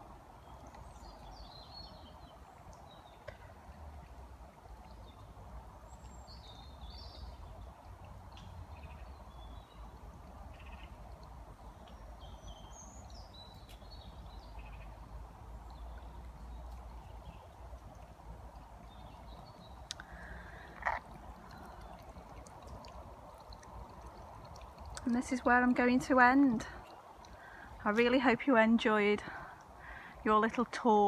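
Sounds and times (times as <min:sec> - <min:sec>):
low outdoor rumble: 0:00.0 - 0:31.0
small birds chirping: 0:00.2 - 0:31.0.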